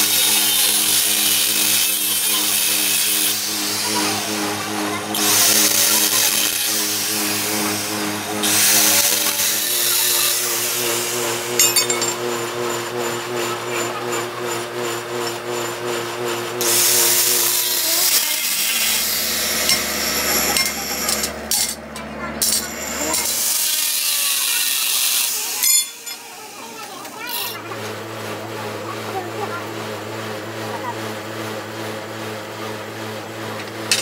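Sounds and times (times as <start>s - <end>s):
grinding disc on metal: 0.0s - 28.0s
angle grinder motor hum: 0.0s - 34.0s.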